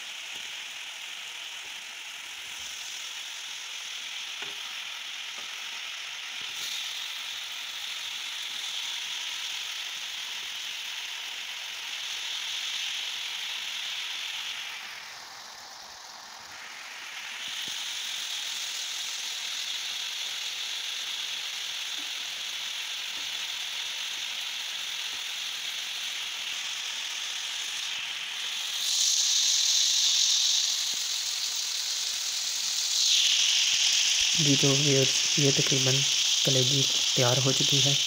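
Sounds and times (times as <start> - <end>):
liver sizzling on a griddle: 0.0 - 38.0.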